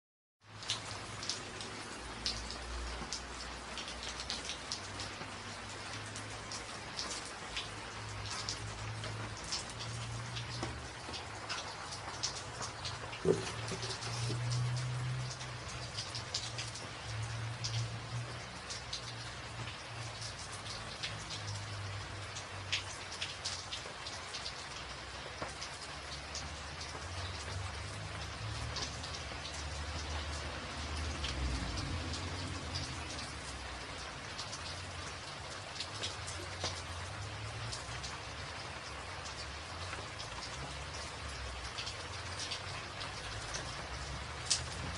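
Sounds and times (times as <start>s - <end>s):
rain falling: 0.4s - 44.9s
raindrop ticks and splashes: 0.4s - 44.9s.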